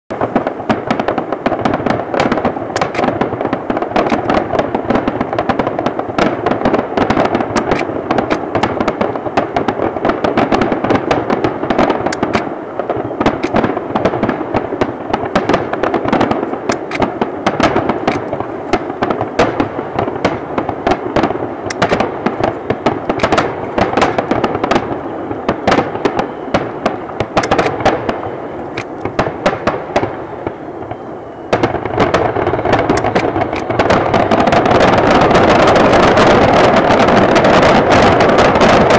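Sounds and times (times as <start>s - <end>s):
fireworks bursting and crackling: 0.1s - 38.9s.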